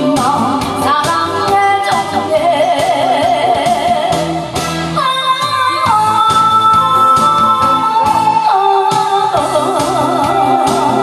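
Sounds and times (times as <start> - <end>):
woman singing into microphone: 0.0 - 4.3, 5.0 - 11.0
amplified music accompaniment: 0.0 - 11.0.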